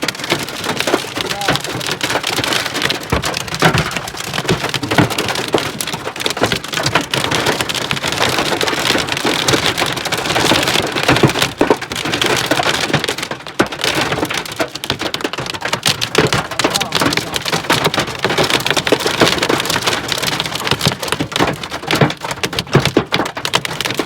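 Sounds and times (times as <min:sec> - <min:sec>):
hailstones striking hard surfaces: 0:00.0 - 0:24.0
heavy rain: 0:00.0 - 0:24.0.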